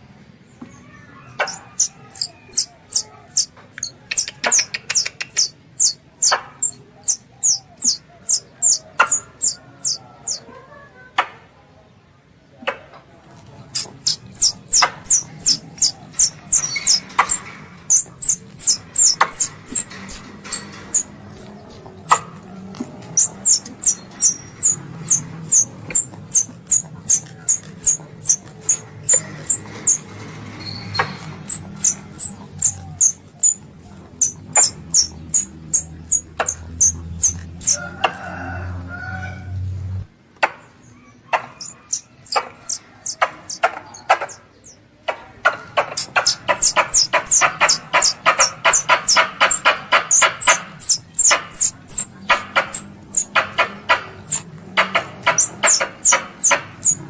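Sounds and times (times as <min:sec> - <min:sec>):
squirrel call high chirps: 0:01.3 - 0:10.5, 0:13.7 - 0:22.2, 0:23.0 - 0:30.0, 0:30.6 - 0:37.8, 0:41.4 - 0:44.8, 0:45.8 - 0:57.0.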